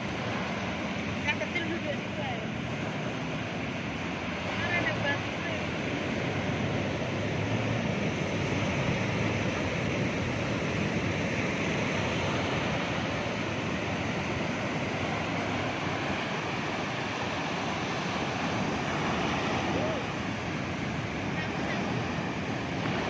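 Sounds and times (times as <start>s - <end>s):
ocean surf breaking: 0.0s - 23.0s
wind: 0.0s - 23.0s.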